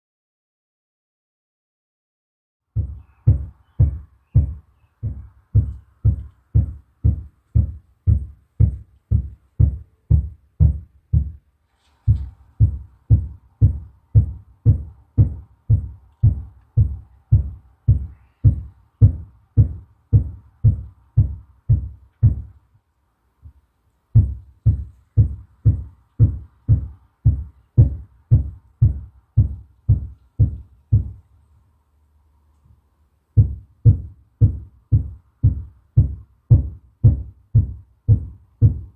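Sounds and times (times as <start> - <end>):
muffled hammering through ceiling: 2.7 - 22.6, 24.2 - 31.3, 33.4 - 38.9.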